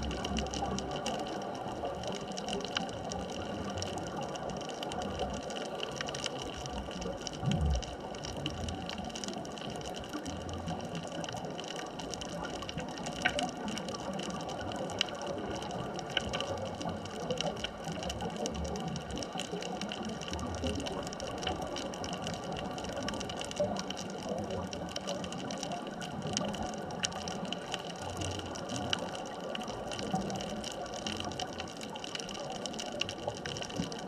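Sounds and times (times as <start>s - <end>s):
sharp underwater clicks: 0.0s - 34.0s
underwater wash of noise: 0.0s - 34.0s.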